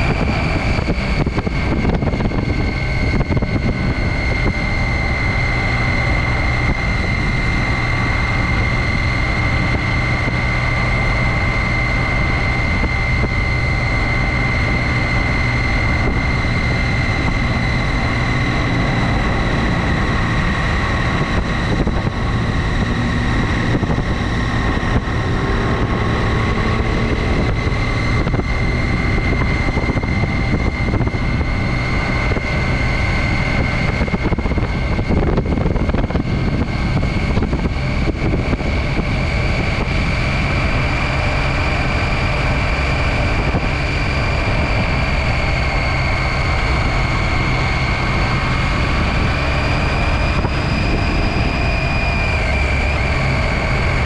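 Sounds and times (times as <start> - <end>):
motorcycle engine cruising: 0.0 - 54.0
steady high whine: 0.0 - 54.0
wind rushing over microphone: 0.0 - 54.0.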